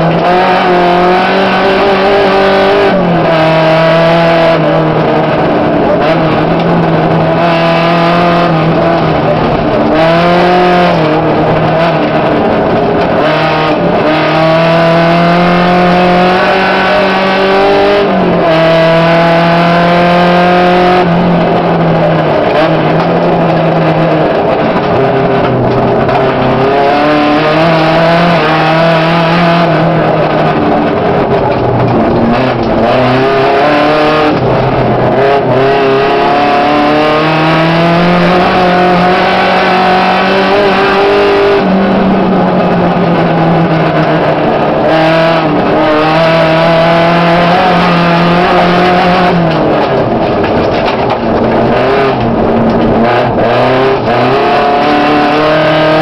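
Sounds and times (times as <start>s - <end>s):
rally car engine accelerating: 0.0s - 56.0s
tyre and road noise on dirt: 0.0s - 56.0s.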